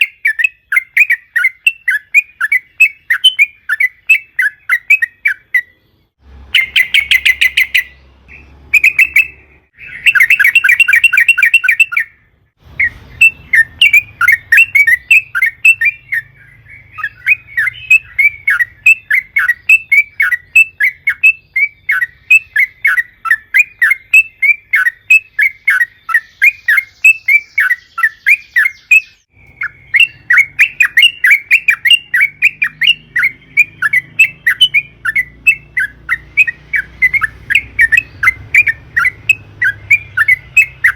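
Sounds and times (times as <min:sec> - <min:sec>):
bulbul chirping song: 0:00.0 - 0:40.9.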